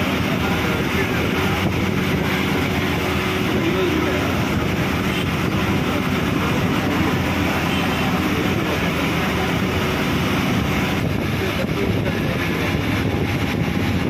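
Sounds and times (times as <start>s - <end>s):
bus engine and tyre noise: 0.0s - 14.0s.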